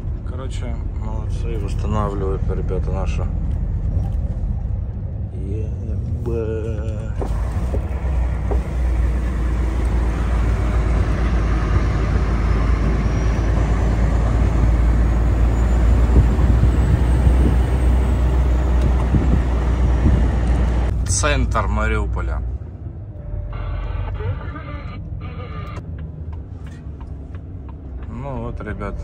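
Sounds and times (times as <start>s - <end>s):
road noise: 0.0s - 29.0s
truck diesel engine rumbling: 0.0s - 29.0s.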